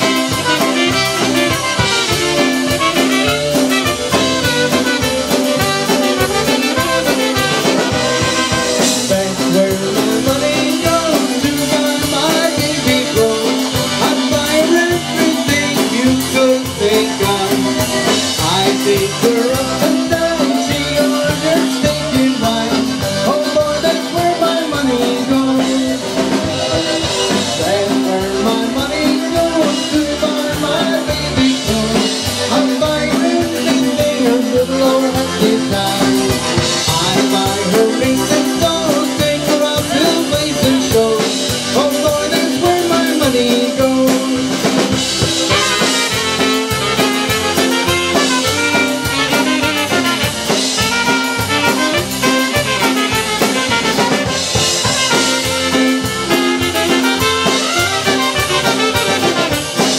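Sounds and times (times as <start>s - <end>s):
live band playing: 0.0s - 59.9s
man singing lead: 0.0s - 59.9s.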